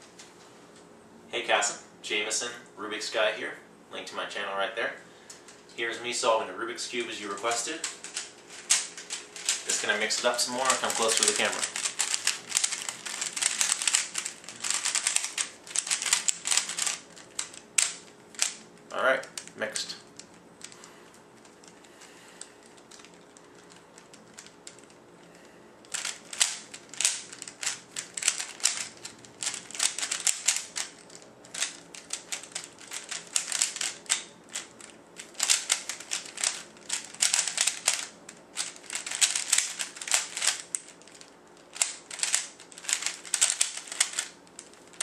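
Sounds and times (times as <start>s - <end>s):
puzzle cube plastic clicking: 7.3s - 21.8s, 22.4s - 25.0s, 25.8s - 45.0s.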